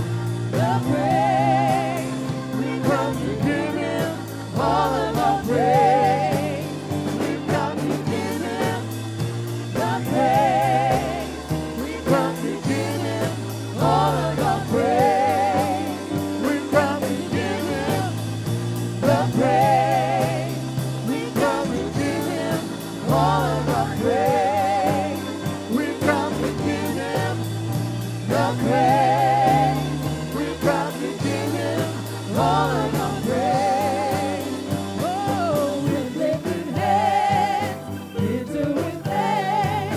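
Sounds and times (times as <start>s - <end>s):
lead singer with vibrato: 0.0s - 39.9s
live band playing: 0.0s - 39.9s.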